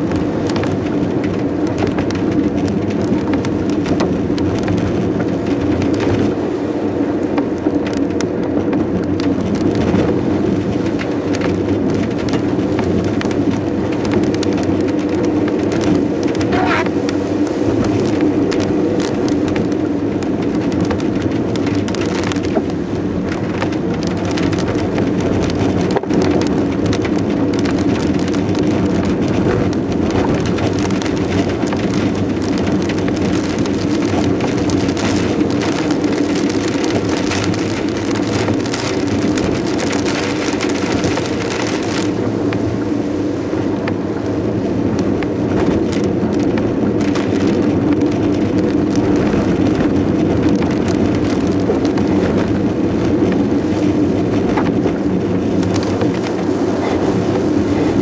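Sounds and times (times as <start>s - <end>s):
engine and tyres humming: 0.0s - 58.0s
heavy rain drumming on a car: 0.0s - 58.0s.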